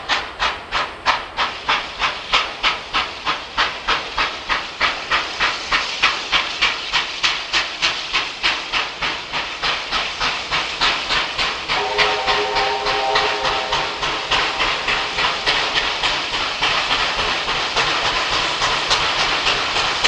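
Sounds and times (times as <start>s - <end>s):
steam locomotive exhaust chuffing: 0.0s - 20.0s.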